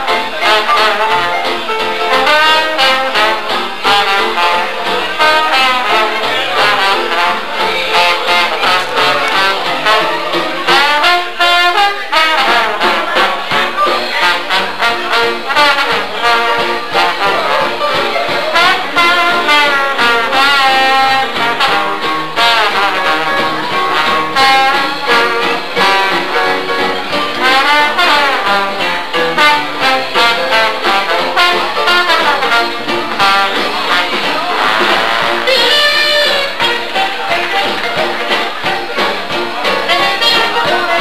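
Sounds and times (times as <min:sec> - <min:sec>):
jazz band with steady beat: 0:00.0 - 0:41.0
trombone jazz solo: 0:00.0 - 0:41.0.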